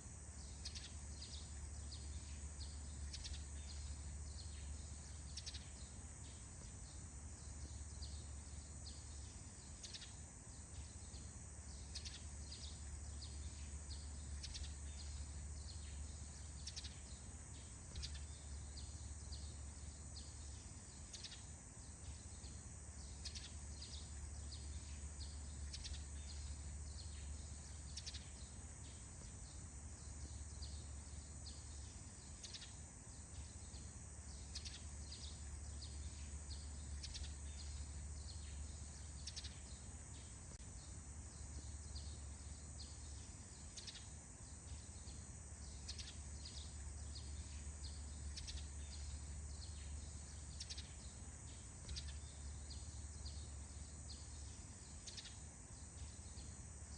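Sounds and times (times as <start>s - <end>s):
birds chirping: 0.3s - 56.9s.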